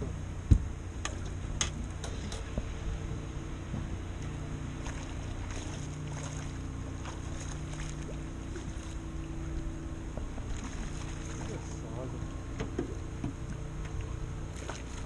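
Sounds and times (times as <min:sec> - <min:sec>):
outboard motor idling: 0:00.0 - 0:15.0
water noise: 0:00.0 - 0:15.0
wind: 0:00.0 - 0:15.0.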